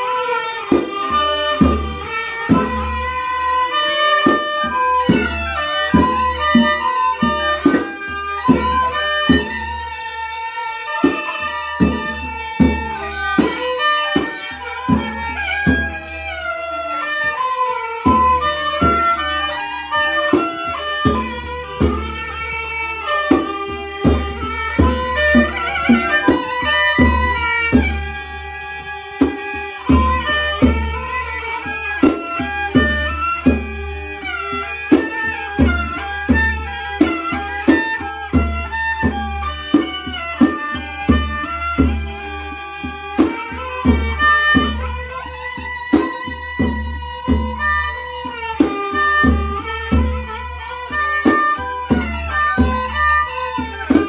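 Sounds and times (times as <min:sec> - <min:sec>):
bowed fiddle melody: 0:00.0 - 0:54.0
hand drum beats: 0:00.0 - 0:54.0.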